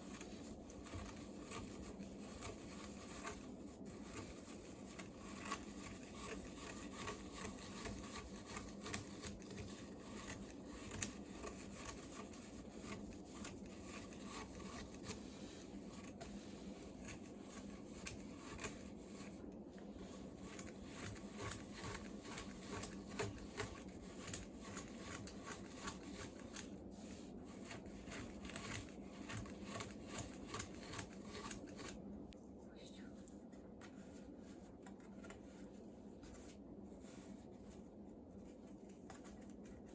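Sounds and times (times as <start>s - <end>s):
rope rubbing and scraping: 0.0s - 32.0s.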